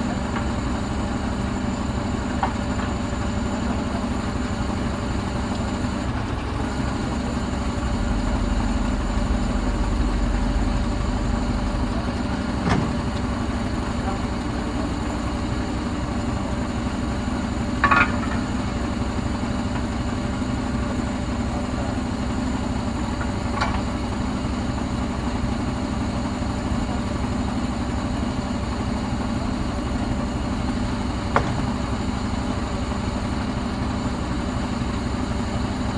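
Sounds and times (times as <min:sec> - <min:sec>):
crane engine droning: 0:00.0 - 0:35.9.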